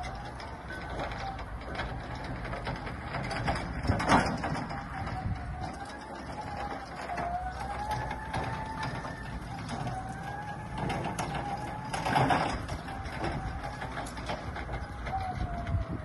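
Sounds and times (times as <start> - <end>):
loud clatter: 0.0 - 16.0
machine rattling and clicking: 0.0 - 16.0.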